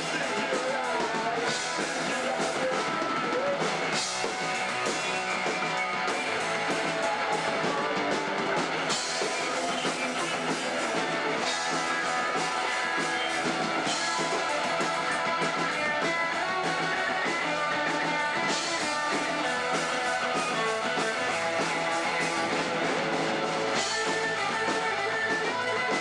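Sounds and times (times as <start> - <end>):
distorted electric guitars: 0.0 - 26.0
drum kit: 0.0 - 26.0.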